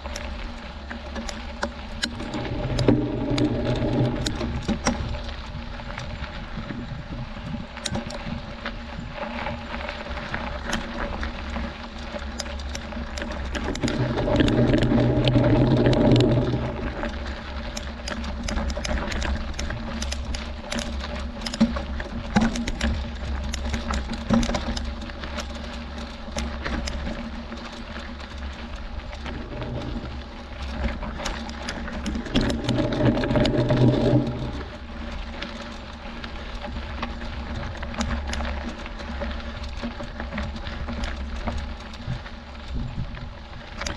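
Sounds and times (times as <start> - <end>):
bike clicking and rattling: 0.0 - 43.9
bike tyres crunching over stones: 0.0 - 43.9.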